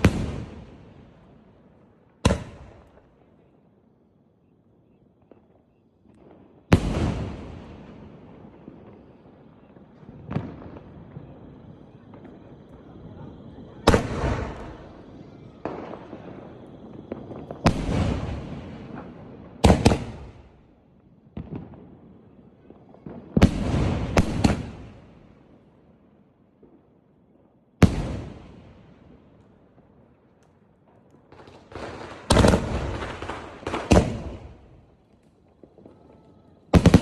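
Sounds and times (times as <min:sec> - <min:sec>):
fireworks bangs with crackling: 0:00.0 - 0:03.5, 0:04.8 - 0:37.0.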